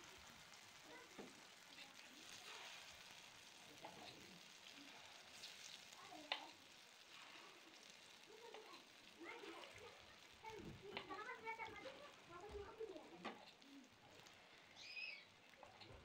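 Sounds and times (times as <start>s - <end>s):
batter frying in hot oil: 0.0s - 16.0s.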